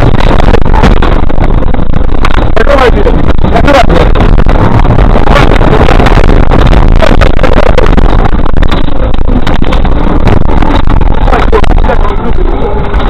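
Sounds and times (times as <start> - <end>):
car engine rumble: 0.0 - 13.0
wind noise: 0.0 - 13.0.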